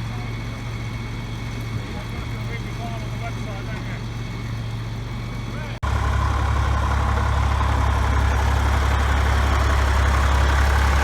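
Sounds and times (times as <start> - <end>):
heavy machinery engine humming: 0.0 - 11.0.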